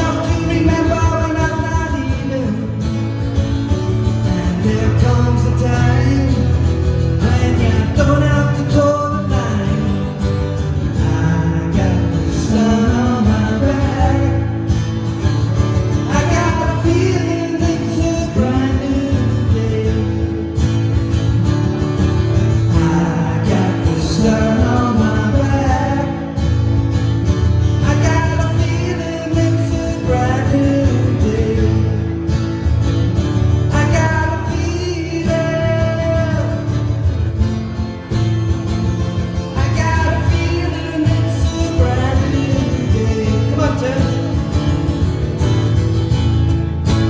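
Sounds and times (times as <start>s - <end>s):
live country band playing: 0.0s - 47.0s.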